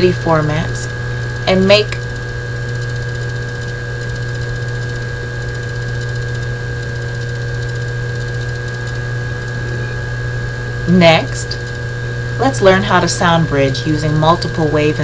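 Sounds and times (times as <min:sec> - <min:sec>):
faint constant high tones: 0:00.0 - 0:15.0
low electrical hum: 0:00.0 - 0:15.0.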